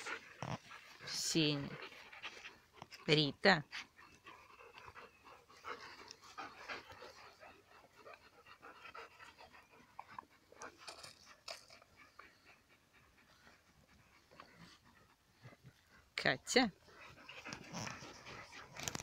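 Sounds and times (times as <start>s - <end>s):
dogs panting softly: 0.0s - 19.0s.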